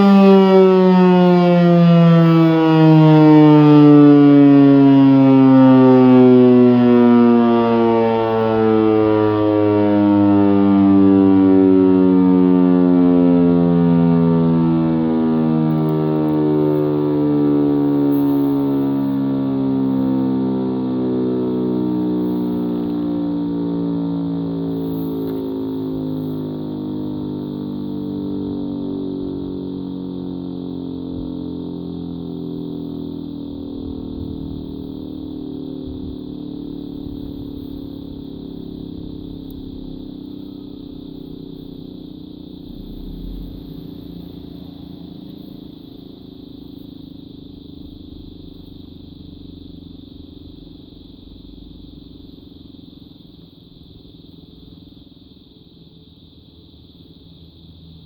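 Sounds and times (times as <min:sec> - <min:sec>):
siren winding down: 0:00.0 - 0:54.2.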